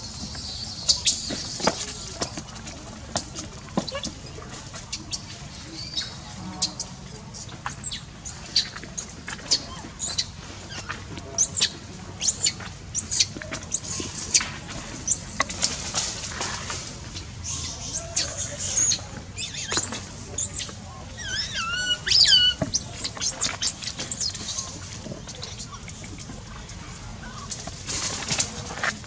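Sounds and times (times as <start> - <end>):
animals squeaking and chirping: 0.0 - 29.0.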